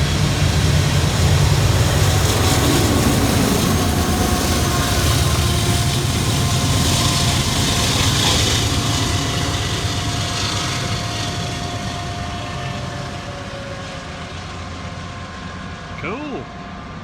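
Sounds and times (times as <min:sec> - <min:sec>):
locomotive engine rumble: 0:00.0 - 0:17.0
train rolling noise: 0:00.0 - 0:17.0.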